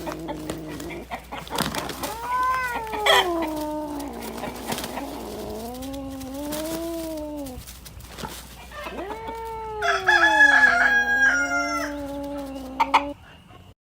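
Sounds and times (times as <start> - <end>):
cat yowling: 0.0 - 1.1, 1.7 - 7.8, 8.6 - 13.2
rooster crowing: 0.0 - 7.6, 8.6 - 13.2.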